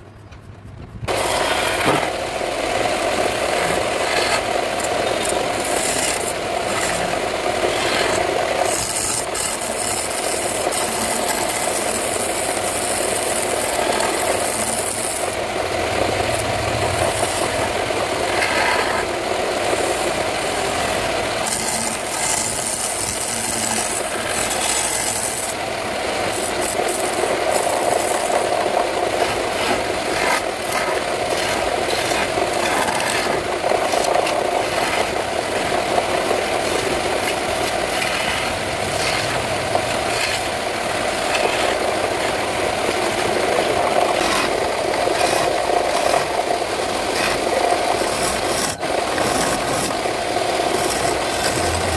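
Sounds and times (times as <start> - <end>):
wood lathe running: 1.1 - 51.9
chisel rasping on spinning wood: 3.3 - 25.6, 26.3 - 35.1, 36.8 - 40.5, 43.6 - 46.4, 47.0 - 51.9.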